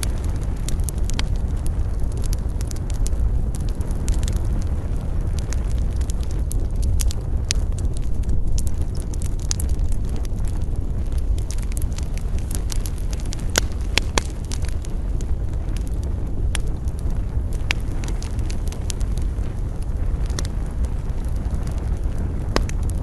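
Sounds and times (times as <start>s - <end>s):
campfire crackling and popping: 0.0s - 23.0s
low rumble: 0.0s - 23.0s.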